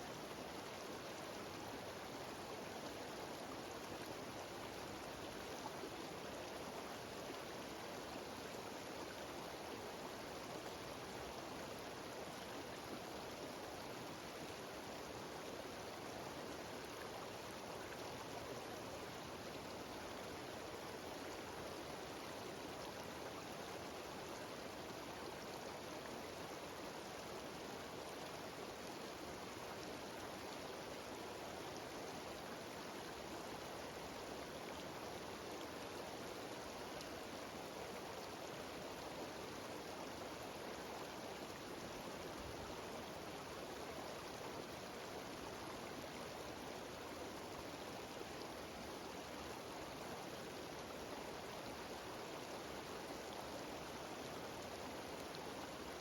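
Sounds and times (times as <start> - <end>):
rushing stream and waterfall: 0.0 - 56.0.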